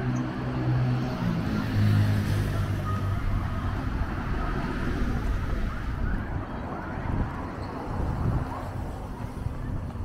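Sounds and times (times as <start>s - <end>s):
wind rumble on microphone: 0.8s - 10.0s.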